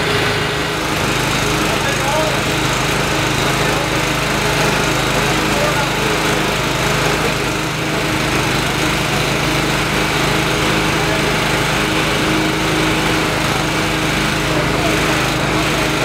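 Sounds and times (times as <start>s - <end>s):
electric garden shredder chopping: 0.0s - 16.0s
small petrol generator running: 0.0s - 16.0s.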